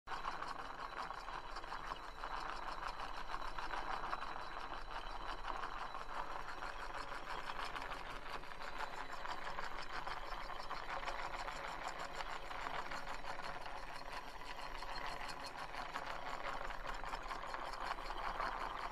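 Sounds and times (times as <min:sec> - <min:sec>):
small motor whirring and clicking: 0:00.1 - 0:18.9.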